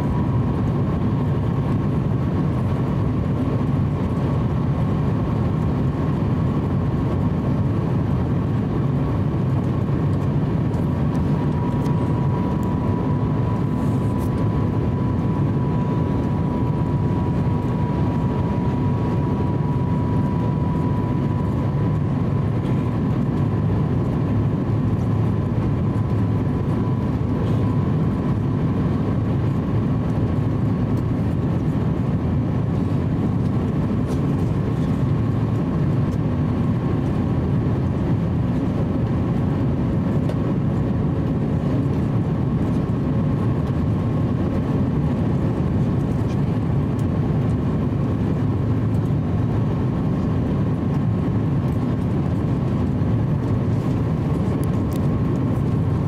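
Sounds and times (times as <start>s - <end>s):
engine and airflow rush: 0.0s - 56.0s
thin engine whine: 0.0s - 56.0s.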